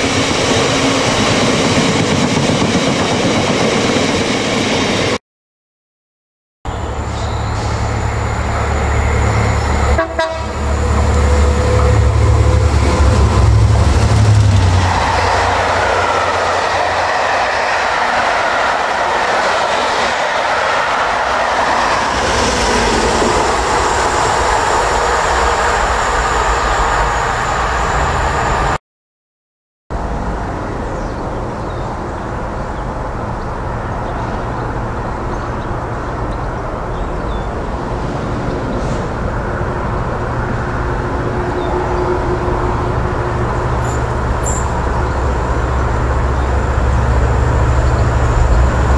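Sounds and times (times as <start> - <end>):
train wheels rumbling on rail: 0.0 - 5.2, 6.8 - 28.8, 30.0 - 48.9
distant diesel locomotive drone: 6.7 - 28.8, 30.0 - 48.9.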